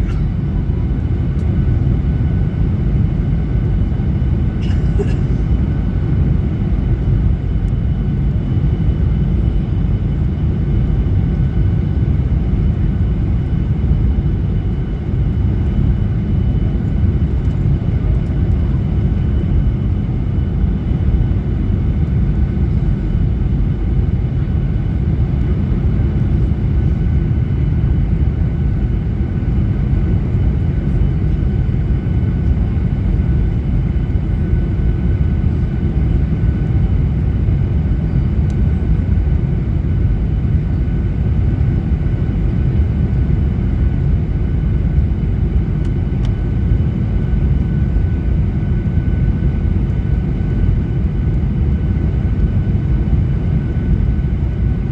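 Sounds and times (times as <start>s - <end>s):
airplane cabin engine rush: 0.0s - 54.9s.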